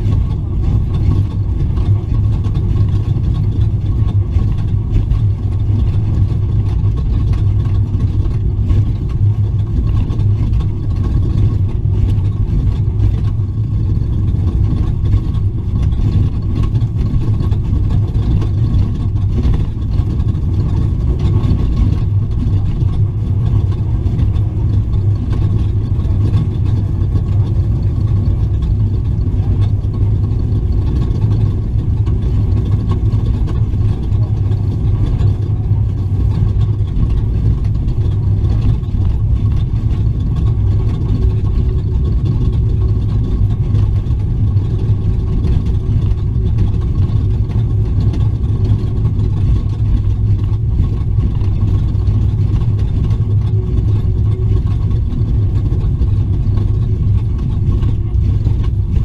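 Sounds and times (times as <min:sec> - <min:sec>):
truck engine droning: 0:00.0 - 0:59.0.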